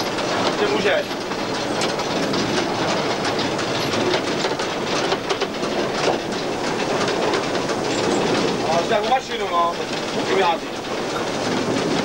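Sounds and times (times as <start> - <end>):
steam locomotive clatter: 0.0 - 12.0
wheels knocking on track: 0.0 - 12.0.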